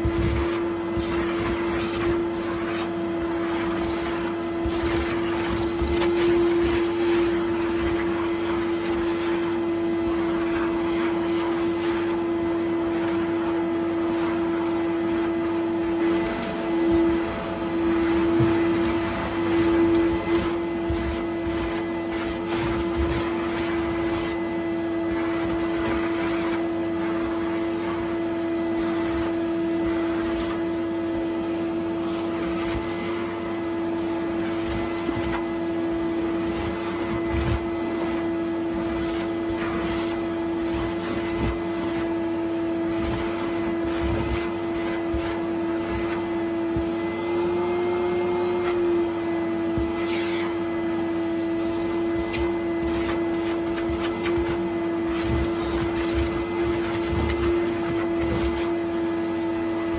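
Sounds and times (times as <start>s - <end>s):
vacuum cleaner motor whine: 0.0s - 59.9s
vacuum head brushing over rug: 0.0s - 59.9s.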